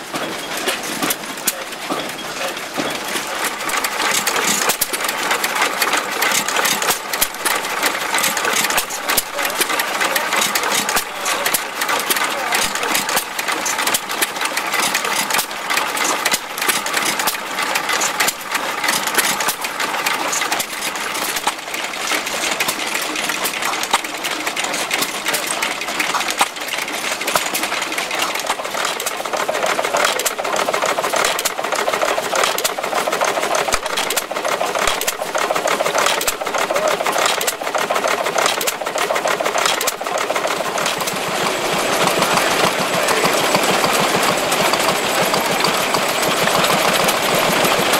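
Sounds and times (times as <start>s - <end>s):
small engine clattering: 0.0s - 47.9s.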